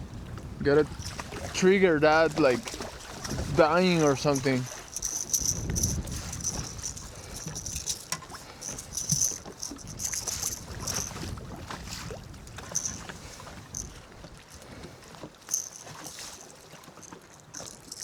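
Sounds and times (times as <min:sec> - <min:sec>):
wind buffeting microphone: 0:00.0 - 0:15.2
water lapping against boat: 0:00.0 - 0:18.0.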